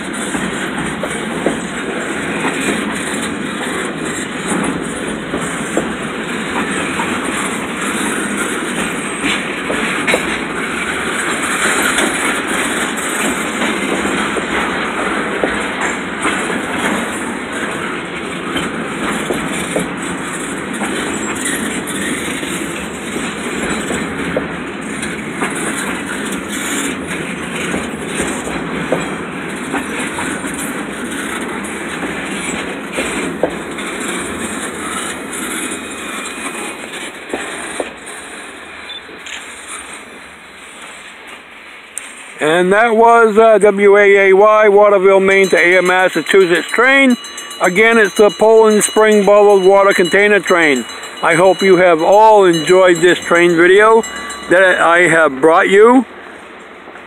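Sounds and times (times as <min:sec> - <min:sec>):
wheels clicking over rail joints: 0:00.0 - 0:42.4, 0:43.2 - 0:56.0
train wheels rumbling on rail: 0:00.0 - 0:57.0.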